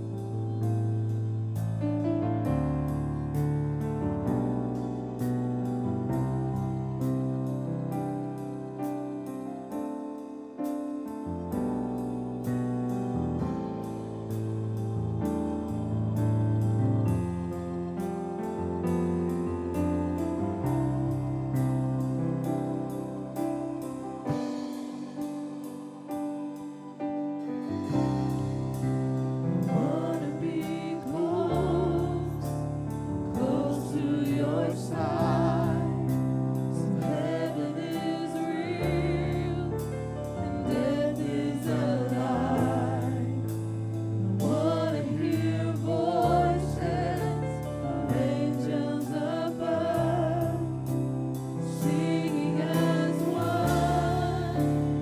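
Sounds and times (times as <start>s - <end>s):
choir singing gospel music: 0.0s - 55.0s.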